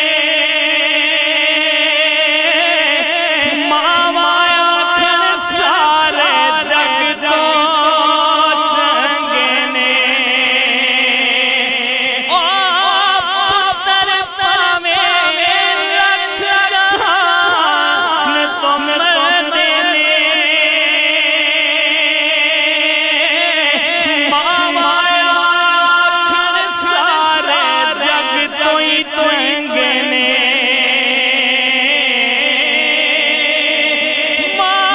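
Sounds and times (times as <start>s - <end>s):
man singing devotional song: 0.0s - 34.9s.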